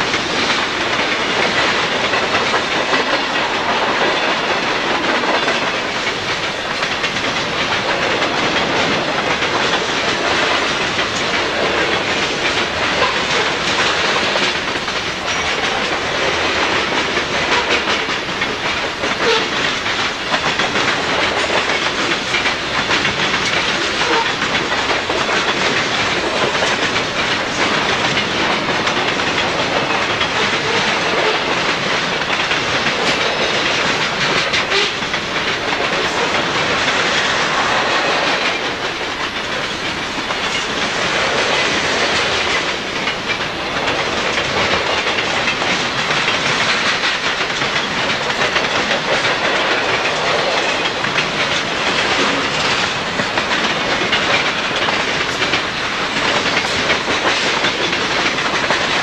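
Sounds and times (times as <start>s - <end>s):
freight train rolling past: 0.0s - 59.0s
wheels clicking over rail joints: 0.0s - 59.0s.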